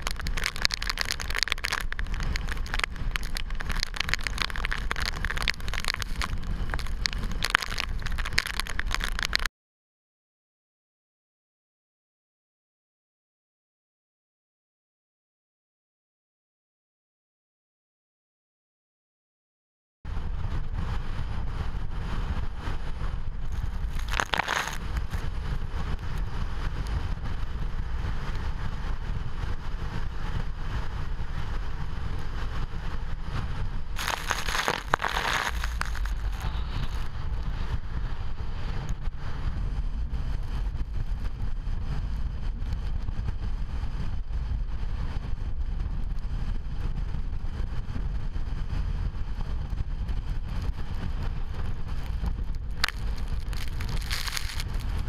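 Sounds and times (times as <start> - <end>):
strong wind buffeting microphone: 0.0 - 9.5, 20.1 - 55.0.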